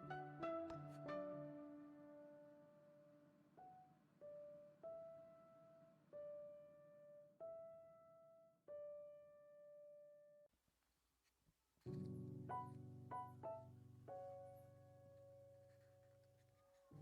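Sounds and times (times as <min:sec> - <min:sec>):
slow piano notes: 0:00.0 - 0:10.3, 0:11.9 - 0:17.0.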